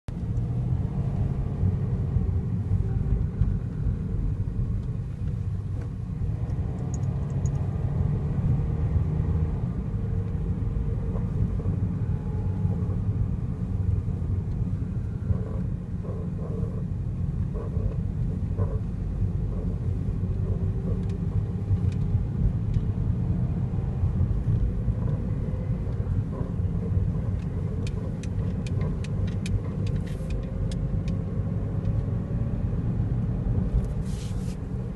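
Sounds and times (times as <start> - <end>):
car road and drivetrain rumble: 0.0 - 34.9.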